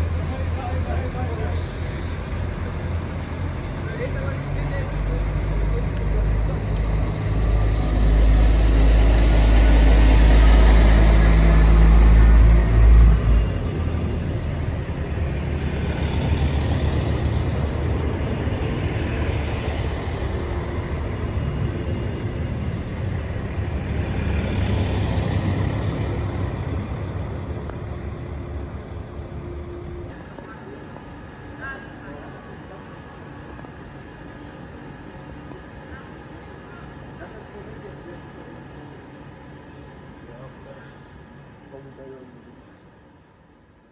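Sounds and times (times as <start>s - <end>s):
railcar pulling away: 0.0s - 41.5s
railcar diesel engine drone: 0.0s - 43.9s.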